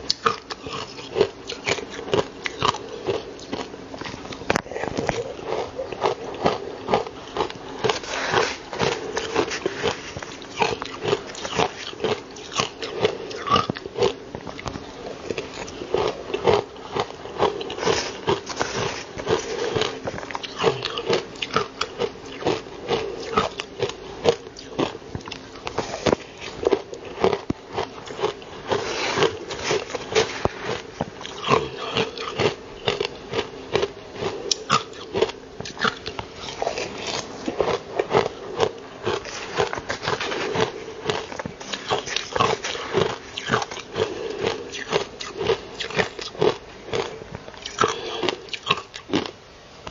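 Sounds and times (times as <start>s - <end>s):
ice crunching between teeth: 0.1s - 49.4s.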